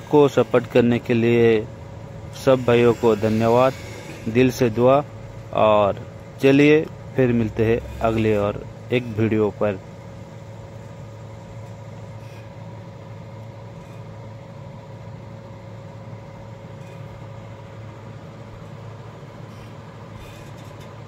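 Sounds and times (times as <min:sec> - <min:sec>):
low machine hum: 0:00.0 - 0:21.0
thin steady whine: 0:00.0 - 0:21.0.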